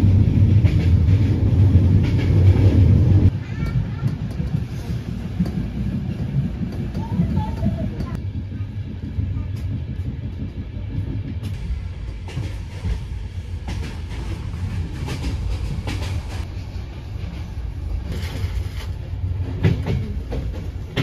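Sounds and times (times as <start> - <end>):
train carriage rumbling on track: 0.0 - 21.0.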